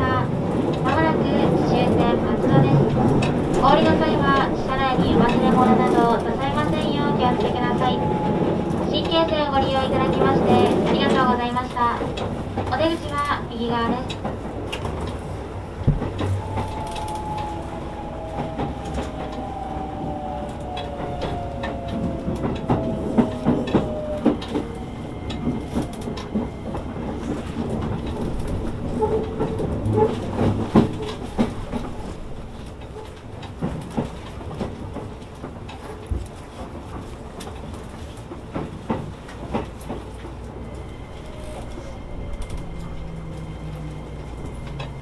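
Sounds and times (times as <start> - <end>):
wheels clicking over rail joints: 0.4 - 45.0.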